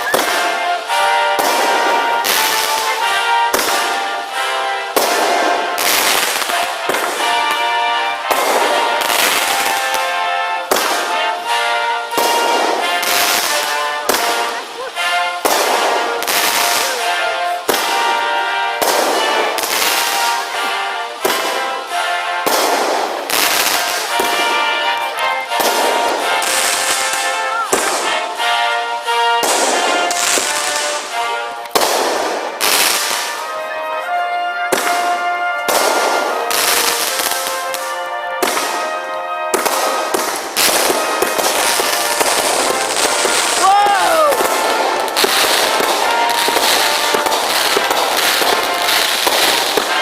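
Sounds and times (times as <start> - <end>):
firework bangs: 0.0 - 50.0
music: 0.0 - 50.0.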